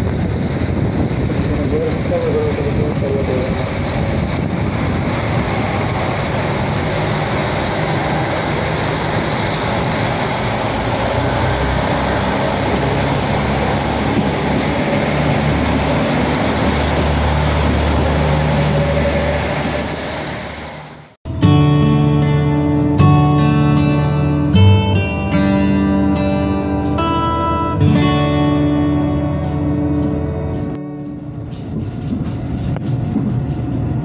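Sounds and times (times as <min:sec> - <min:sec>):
diesel train engine rumbling: 0:00.0 - 0:34.0
faint engine whine: 0:00.0 - 0:34.0.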